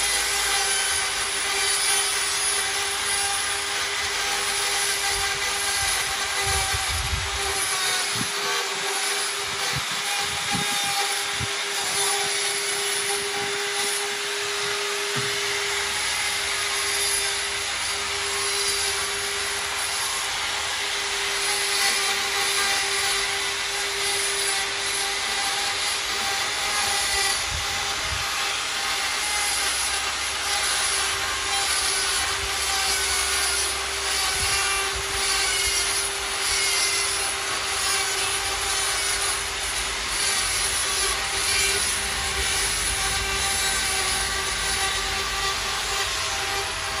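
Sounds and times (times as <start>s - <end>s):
electric carving tool whining: 0.0s - 47.0s.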